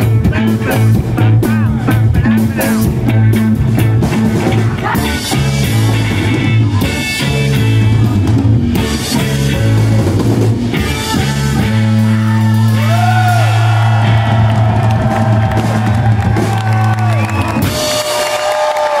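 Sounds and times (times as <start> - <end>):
electric guitar wailing: 0.0 - 19.0
live rock band: 0.0 - 19.0.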